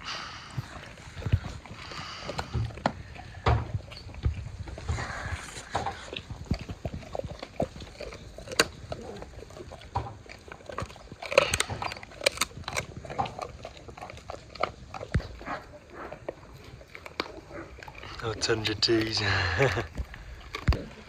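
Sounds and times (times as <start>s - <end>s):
dogs chewing meat and bones: 0.0s - 21.0s.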